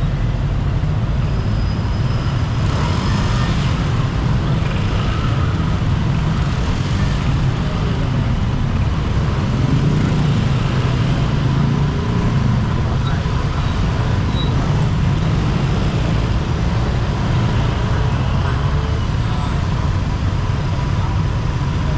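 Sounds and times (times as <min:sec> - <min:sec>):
dense city traffic rumble: 0:00.0 - 0:21.9.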